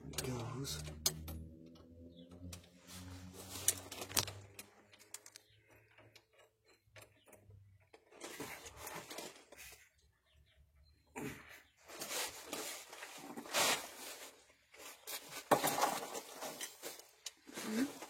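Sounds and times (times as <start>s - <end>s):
rustling and scraping: 2.5s - 10.5s, 11.2s - 18.0s.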